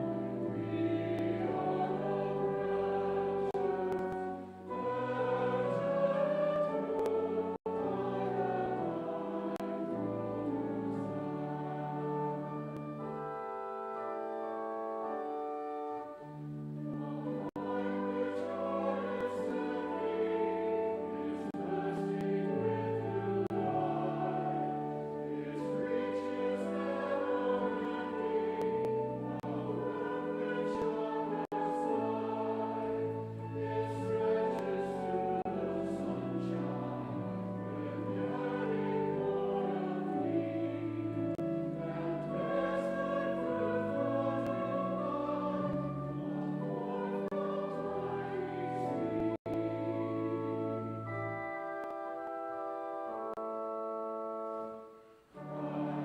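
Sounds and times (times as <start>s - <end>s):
brass quintet playing sacred music: 7.8s - 16.3s, 16.9s - 56.0s.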